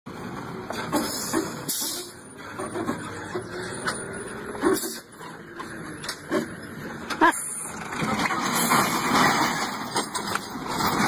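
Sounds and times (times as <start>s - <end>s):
heavy truck engine under load: 0.1s - 11.0s.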